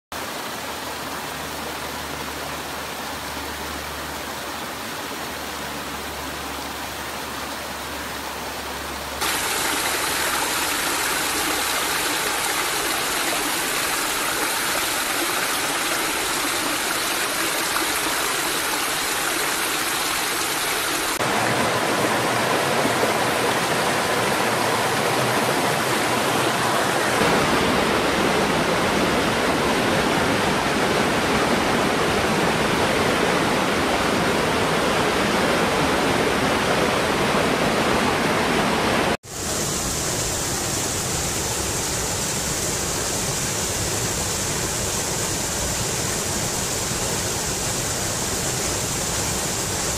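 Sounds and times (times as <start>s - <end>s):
water rushing over rocks: 0.2s - 49.9s.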